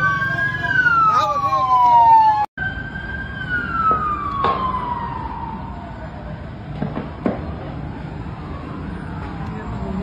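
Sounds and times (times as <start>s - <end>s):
siren wailing: 0.0s - 6.5s, 7.8s - 10.0s.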